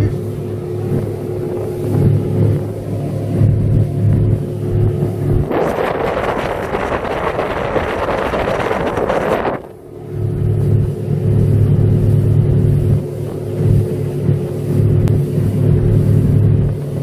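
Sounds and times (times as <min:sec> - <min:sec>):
outboard motor droning: 0:00.0 - 0:17.0
rush of wind and water: 0:00.0 - 0:17.0.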